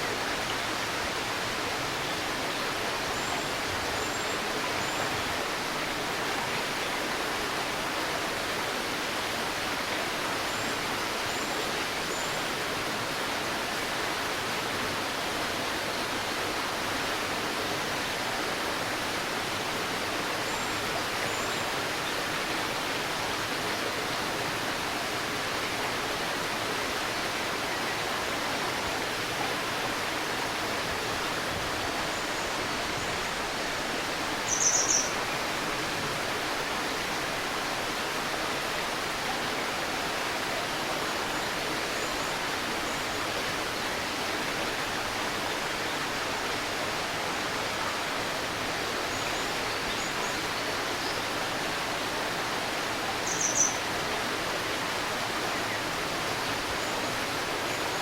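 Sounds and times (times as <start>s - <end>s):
river babbling: 0.0s - 58.0s.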